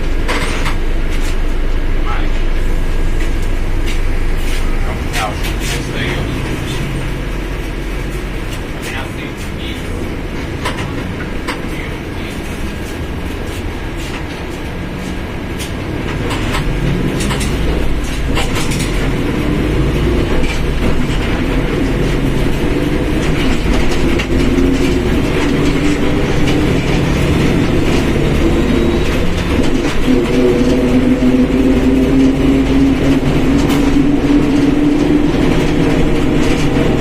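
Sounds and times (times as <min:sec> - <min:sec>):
rattles and clunks: 0:00.0 - 0:01.8, 0:03.1 - 0:37.0
bus engine droning: 0:00.0 - 0:37.0.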